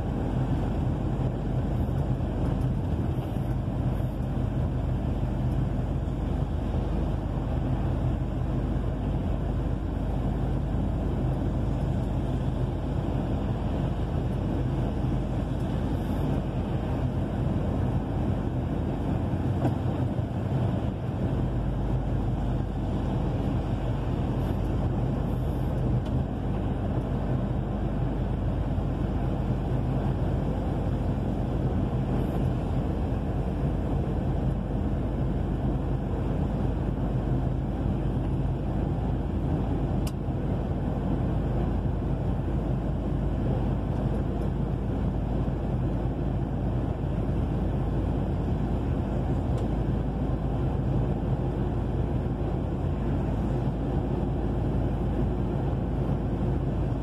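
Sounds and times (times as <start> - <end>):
truck engine hum: 0.0 - 57.0
tyre hiss and road noise: 0.0 - 57.0.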